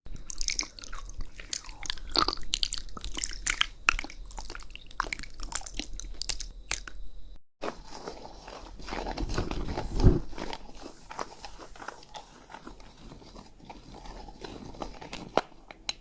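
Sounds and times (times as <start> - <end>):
crunchy chewing and biting: 0.1 - 7.0, 7.7 - 15.8.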